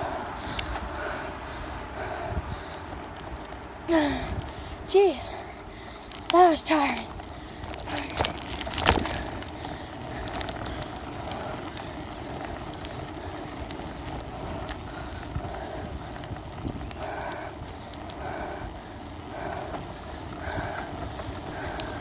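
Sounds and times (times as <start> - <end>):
bicycle rattling: 0.0 - 22.0
steady rushing noise: 0.0 - 22.0
faint clicks: 0.2 - 4.9, 5.7 - 6.4, 7.1 - 22.0.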